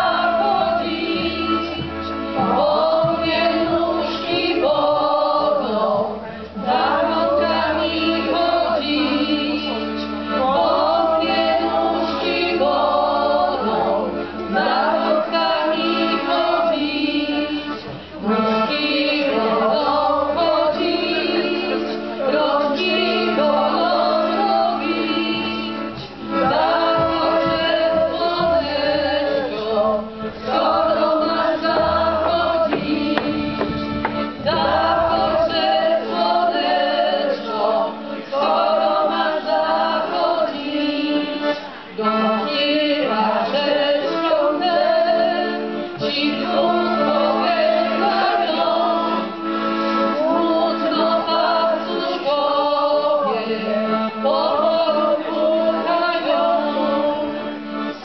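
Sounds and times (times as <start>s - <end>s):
women singing together: 0.0s - 58.0s.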